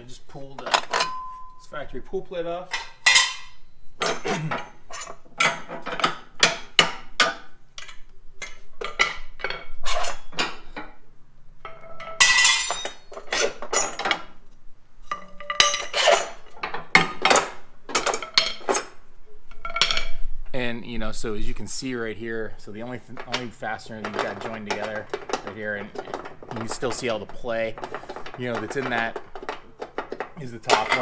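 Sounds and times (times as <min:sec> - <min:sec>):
metal tools clinking and clanking: 0:00.4 - 0:01.8, 0:02.5 - 0:11.0, 0:11.6 - 0:14.4, 0:15.0 - 0:20.2, 0:23.0 - 0:31.0.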